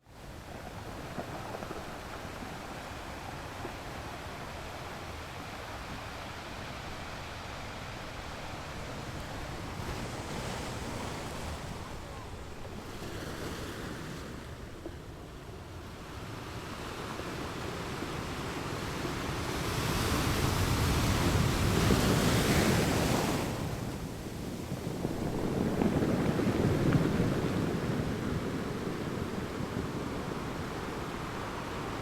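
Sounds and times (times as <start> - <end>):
ocean waves breaking on beach: 0.0 - 32.0
wind noise on microphone: 0.0 - 32.0.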